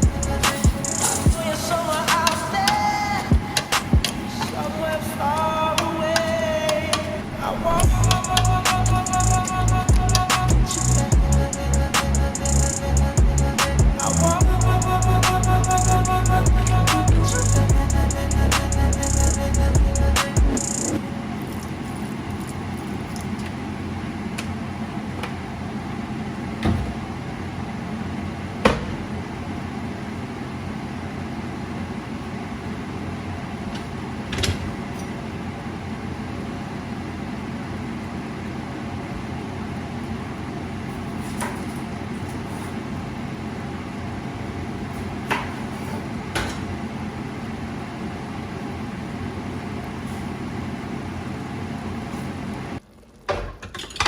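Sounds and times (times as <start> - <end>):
low running hum: 0.0 - 52.9.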